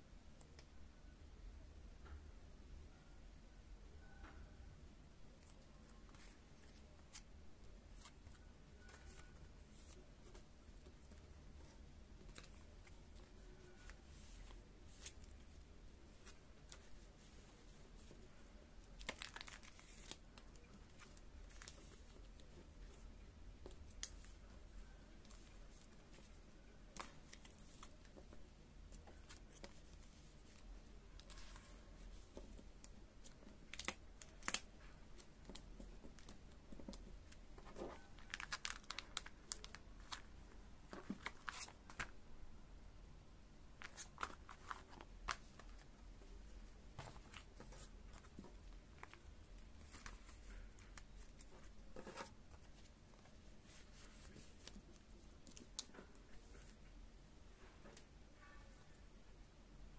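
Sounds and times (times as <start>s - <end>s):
plastic sleeves crinkling: 5.4s - 42.2s, 43.8s - 46.3s, 46.9s - 56.8s.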